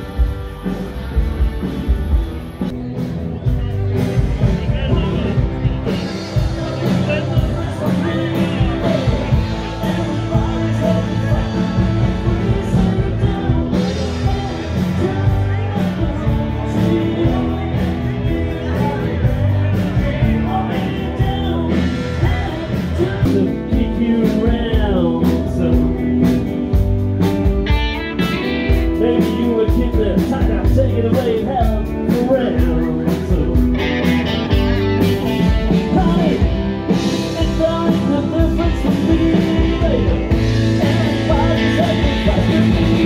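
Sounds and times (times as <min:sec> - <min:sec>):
live rock band playing: 0:00.0 - 0:43.0
person singing: 0:04.4 - 0:26.9, 0:27.7 - 0:43.0.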